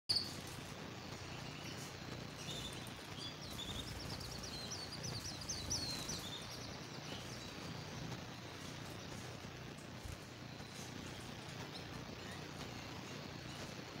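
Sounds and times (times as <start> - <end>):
canary singing trills: 0.1 - 14.0
faint steady hiss: 0.1 - 14.0.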